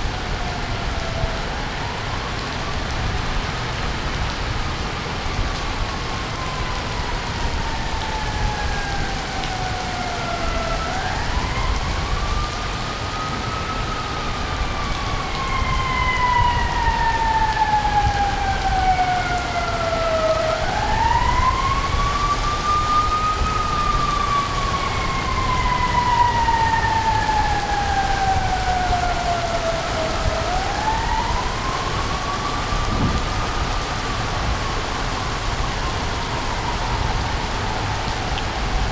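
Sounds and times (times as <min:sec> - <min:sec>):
siren wailing: 0:00.0 - 0:03.6, 0:05.2 - 0:38.9
steady rain: 0:00.0 - 0:38.9.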